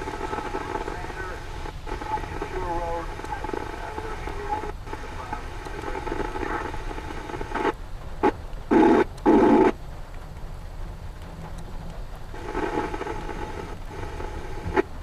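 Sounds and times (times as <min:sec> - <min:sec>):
police scanner radio hissing: 0:00.0 - 0:09.8, 0:12.4 - 0:15.0
short bursts of radio noise: 0:00.0 - 0:09.8, 0:12.4 - 0:15.0.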